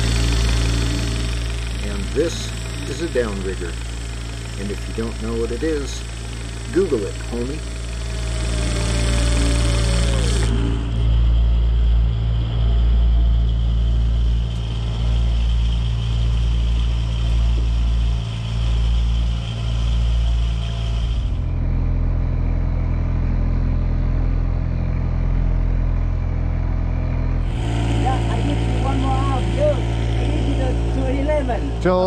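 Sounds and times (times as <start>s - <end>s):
outboard motor drone: 0.0s - 32.0s.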